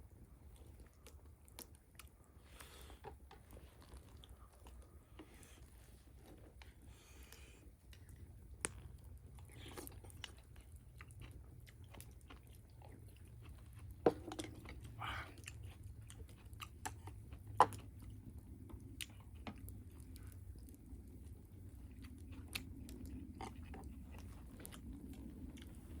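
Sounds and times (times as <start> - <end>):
person chewing: 0.5 - 26.0.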